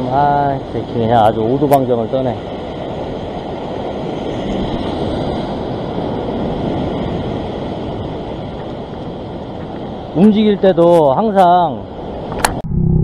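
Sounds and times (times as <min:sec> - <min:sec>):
sea surf breaking on rocks: 0:00.0 - 0:12.4
wind buffeting microphone: 0:00.0 - 0:12.6.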